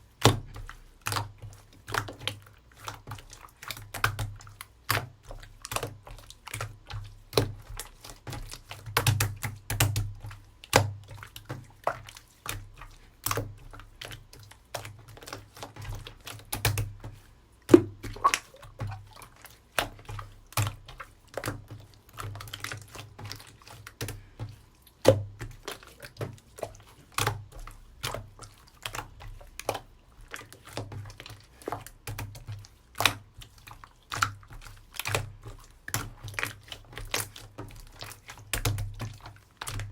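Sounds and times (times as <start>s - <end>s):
hands squishing wet slime: 0.0s - 39.9s.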